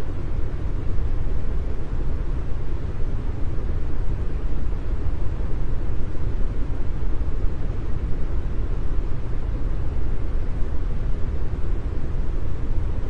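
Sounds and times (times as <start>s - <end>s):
brown noise hiss: 0.0s - 13.0s.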